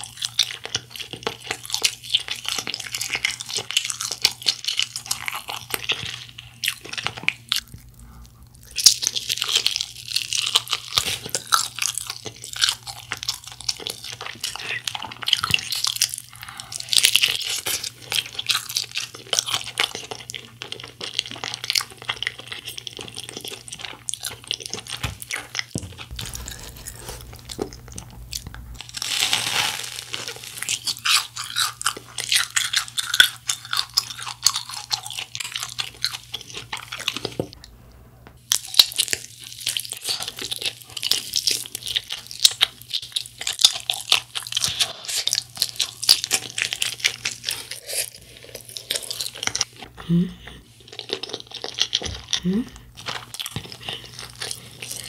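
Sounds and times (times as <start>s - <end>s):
crunchy chewing of fried chicken: 0.0s - 37.8s, 38.4s - 55.0s.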